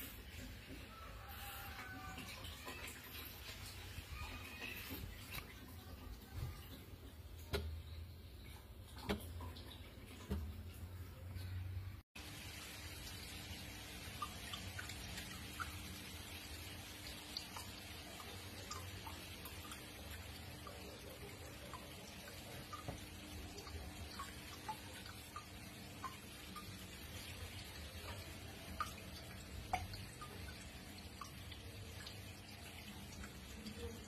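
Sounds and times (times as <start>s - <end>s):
aquarium water trickling: 0.0s - 34.0s.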